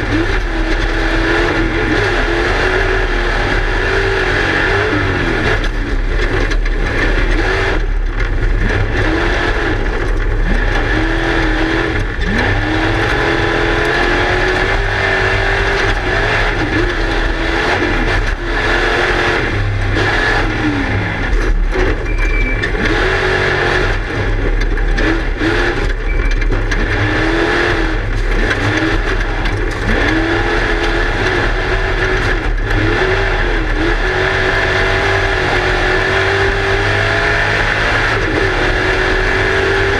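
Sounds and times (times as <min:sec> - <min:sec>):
chassis rattle: 0:00.0 - 0:39.9
race car engine revving: 0:00.0 - 0:39.9.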